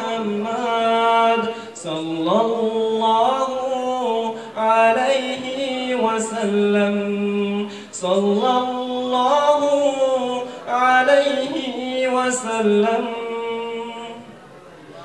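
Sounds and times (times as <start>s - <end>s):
man singing unaccompanied: 0.0s - 14.4s.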